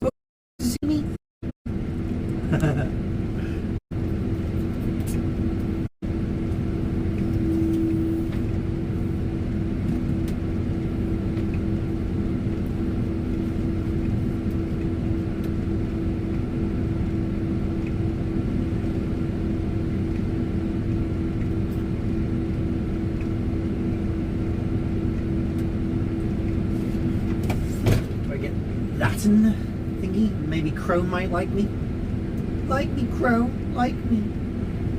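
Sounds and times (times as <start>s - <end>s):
tractor engine running: 1.7s - 34.9s.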